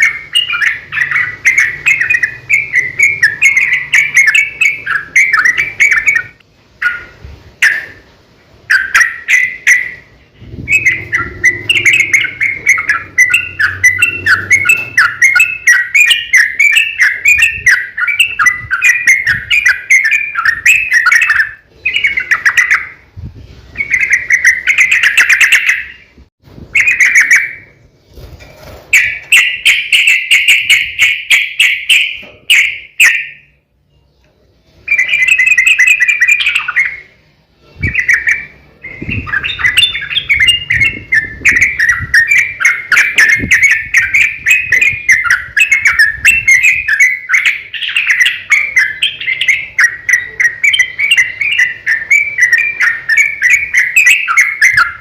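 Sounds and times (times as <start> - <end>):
bird chattering song: 0.0 - 23.1, 23.8 - 27.8, 28.9 - 34.2, 34.8 - 55.0.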